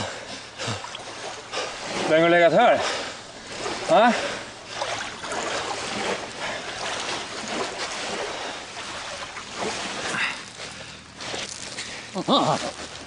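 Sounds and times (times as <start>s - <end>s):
sea water washing against shore: 0.0s - 13.0s
steady wind: 0.0s - 13.0s.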